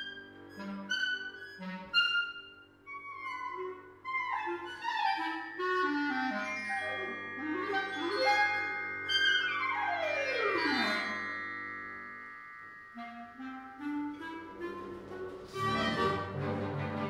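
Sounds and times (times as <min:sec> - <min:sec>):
solo clarinet: 0:00.0 - 0:11.2, 0:13.0 - 0:17.0
chamber ensemble playing: 0:00.0 - 0:17.0.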